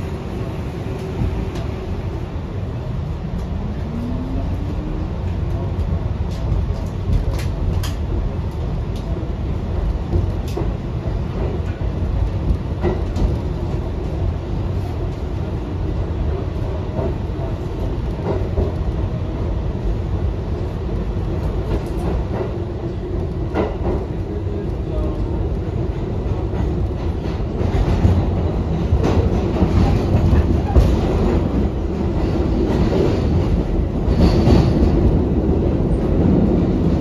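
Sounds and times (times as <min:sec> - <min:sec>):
subway train rumbling on rails: 0:00.0 - 0:37.0.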